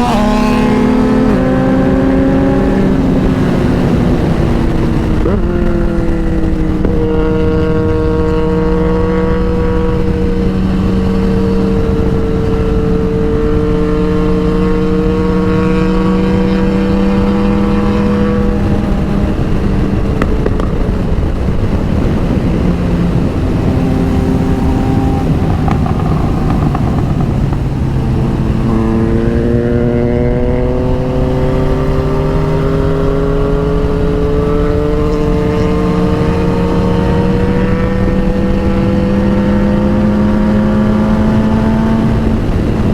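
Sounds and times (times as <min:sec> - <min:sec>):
motorcycle engine running: 0:00.0 - 0:42.9
road noise: 0:00.0 - 0:42.9
wind noise: 0:00.0 - 0:42.9.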